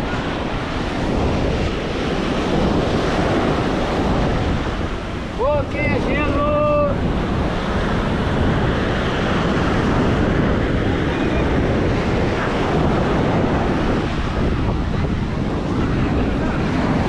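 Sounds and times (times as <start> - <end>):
ocean surf washing on beach: 0.0 - 17.0
wind blowing on microphone: 0.0 - 17.0.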